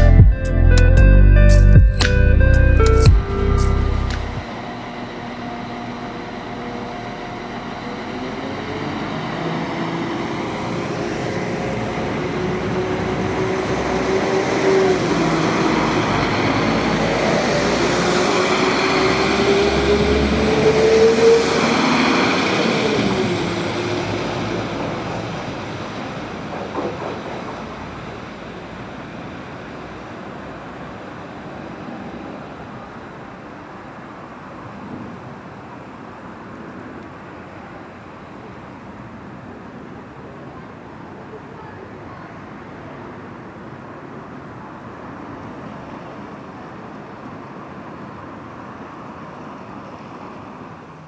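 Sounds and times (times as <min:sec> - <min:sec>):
diesel train accelerating past: 0:00.0 - 0:51.0.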